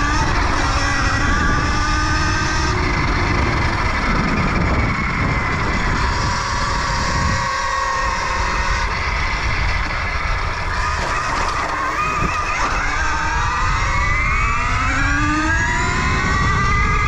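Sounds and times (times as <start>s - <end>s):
electric motor whining: 0.0s - 17.0s
wind rumble on microphone: 0.0s - 17.0s.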